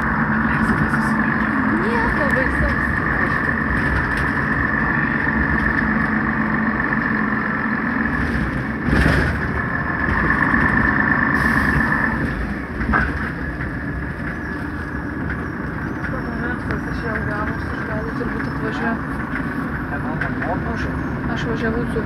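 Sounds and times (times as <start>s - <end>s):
bus engine and running gear: 0.0s - 22.0s.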